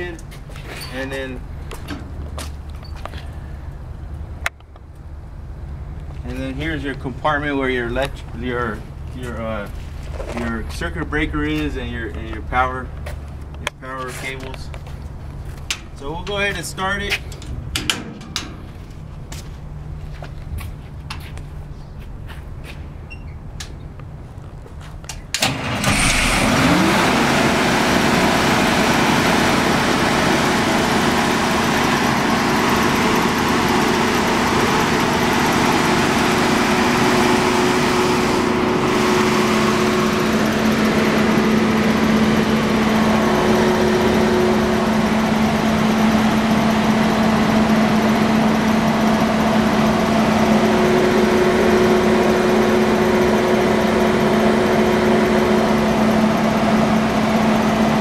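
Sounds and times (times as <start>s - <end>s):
diesel generator engine running: 0.0s - 58.0s.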